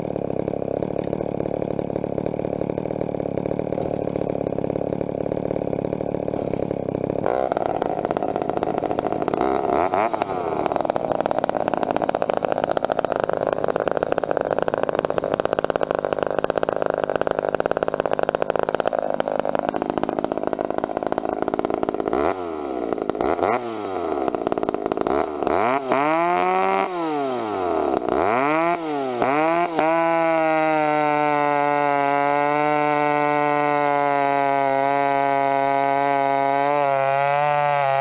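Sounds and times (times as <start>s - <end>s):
chainsaw running and revving: 0.0s - 38.0s.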